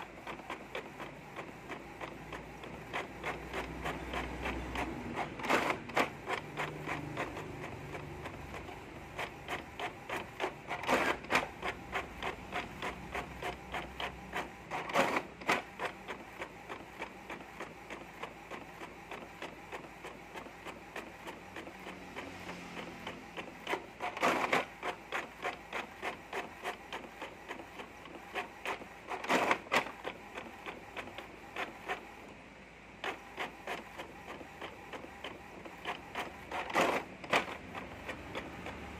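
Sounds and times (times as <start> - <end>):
printer clatter: 0.0 - 38.9.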